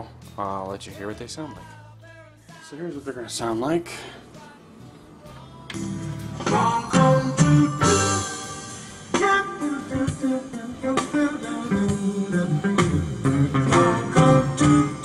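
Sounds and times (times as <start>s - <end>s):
guitar music through a speaker: 0.0s - 15.0s.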